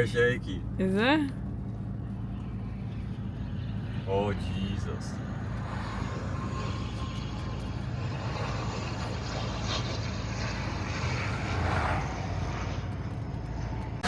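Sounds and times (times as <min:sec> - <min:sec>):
airliner engines rumbling: 0:00.0 - 0:14.0.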